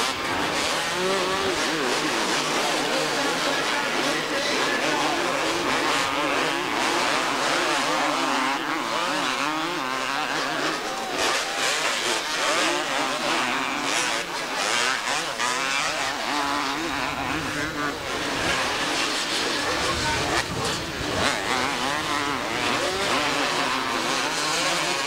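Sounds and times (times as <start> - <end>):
motocross bikes racing: 0.0 - 25.0.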